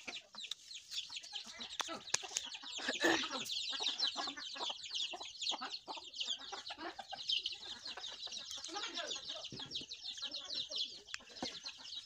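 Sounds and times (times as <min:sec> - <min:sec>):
chickens clucking: 0:00.0 - 0:12.0
chorus of high chirps: 0:00.0 - 0:12.0.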